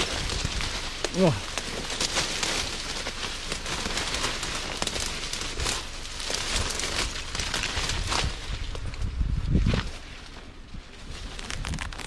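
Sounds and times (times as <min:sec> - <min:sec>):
dry stems snapping: 0:00.0 - 0:09.9, 0:11.1 - 0:12.0
bamboo grass rustling and crackling: 0:00.0 - 0:12.0.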